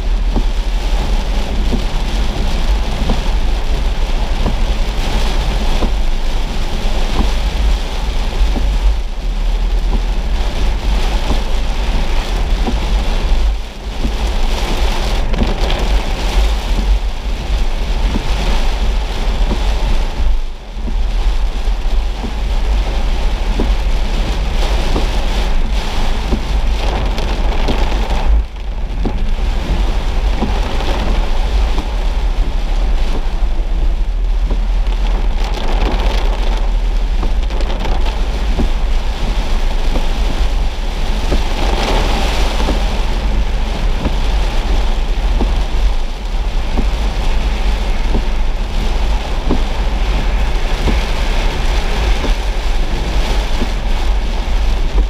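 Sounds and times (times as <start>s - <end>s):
engine and road rumble: 0.0s - 55.0s
heavy rain on car roof: 0.0s - 55.0s.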